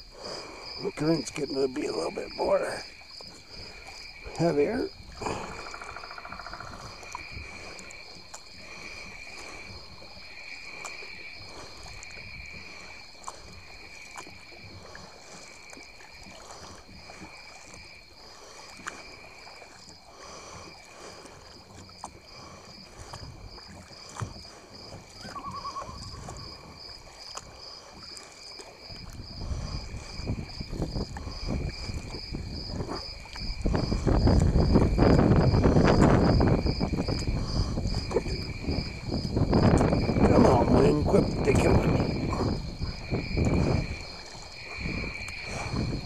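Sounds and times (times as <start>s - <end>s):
insect chorus: 0.0s - 46.0s
paddle splashing and dripping: 0.0s - 46.0s
water washing against boat: 0.0s - 46.0s
wind rumble on microphone: 0.0s - 46.0s.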